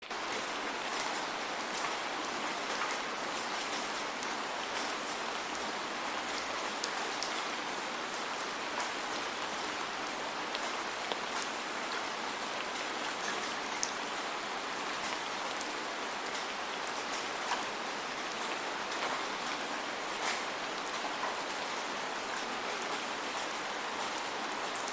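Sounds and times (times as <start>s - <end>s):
raindrops ticking on hard surface: 0.1s - 24.9s.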